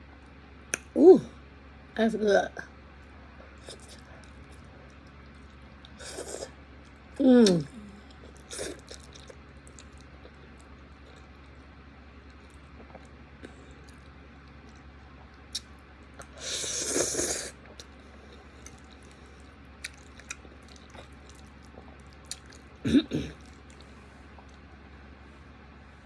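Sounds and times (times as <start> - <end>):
quiet chewing: 3.0 - 25.6.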